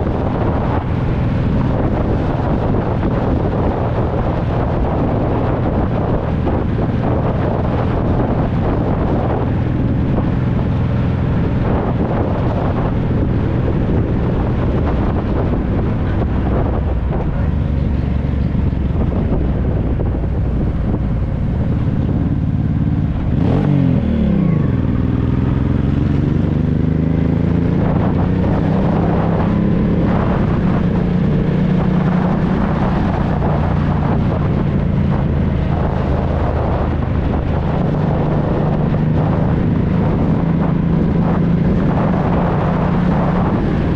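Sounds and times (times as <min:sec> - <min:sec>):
motorcycle engine running: 0:00.0 - 0:43.9
wind noise on microphone: 0:00.0 - 0:43.9.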